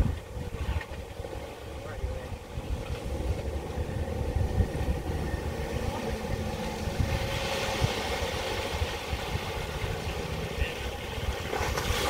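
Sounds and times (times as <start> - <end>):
vehicle rumbling on rough track: 0.0 - 12.0.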